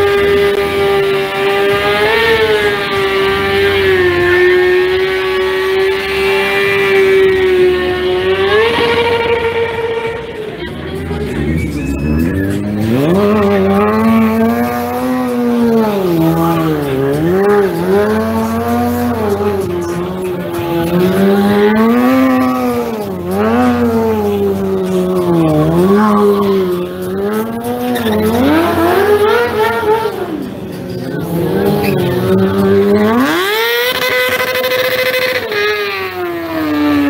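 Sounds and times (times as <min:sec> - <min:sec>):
motorcycle engine revving hard: 0:00.0 - 0:37.0.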